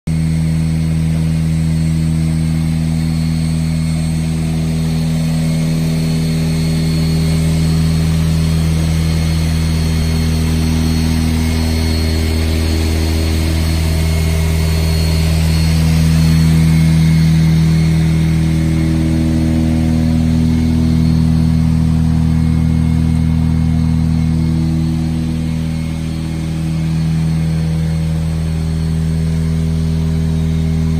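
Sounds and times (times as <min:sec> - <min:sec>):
wire bunching machine humming: 0:00.1 - 0:30.9.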